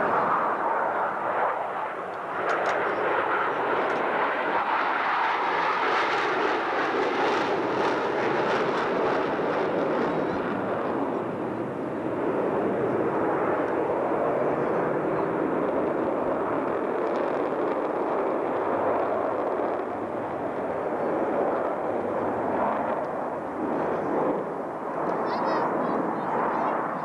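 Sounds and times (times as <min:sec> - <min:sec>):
jet aircraft passing overhead: 0:00.0 - 0:27.0.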